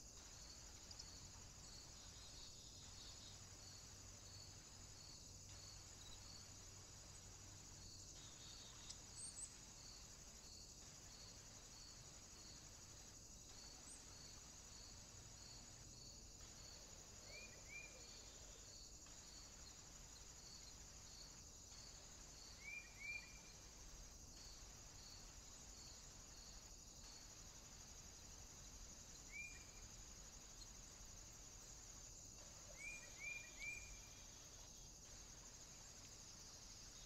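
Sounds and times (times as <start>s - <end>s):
insect chirring: 0.0s - 37.0s.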